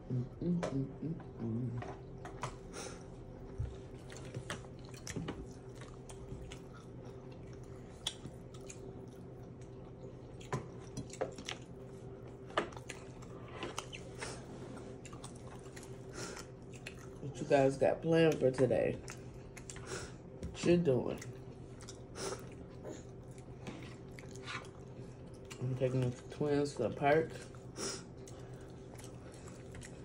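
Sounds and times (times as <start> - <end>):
steady low hum: 0.0 - 30.0
person chewing: 1.3 - 17.2, 19.0 - 20.4, 21.2 - 25.6, 27.4 - 30.0.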